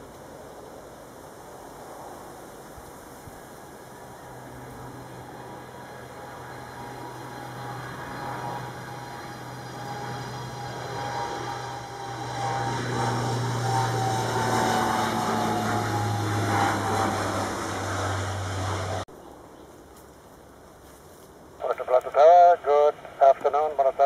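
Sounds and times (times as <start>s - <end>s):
turboprop aircraft engines droning: 1.4s - 19.1s, 21.4s - 24.0s.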